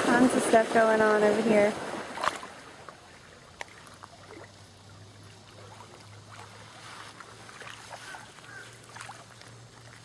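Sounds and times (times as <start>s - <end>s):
low steady hum: 0.0s - 10.0s
water lapping: 0.0s - 10.0s.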